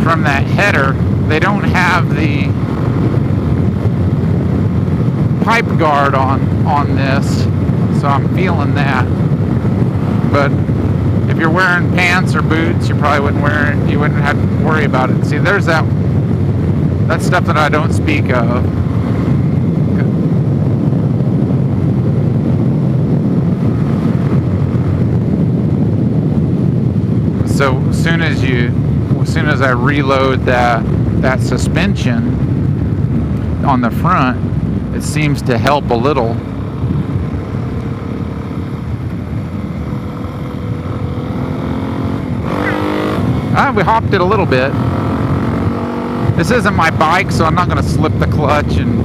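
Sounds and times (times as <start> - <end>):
motorcycle engine rumble: 0.0 - 49.0
wind noise: 0.0 - 49.0.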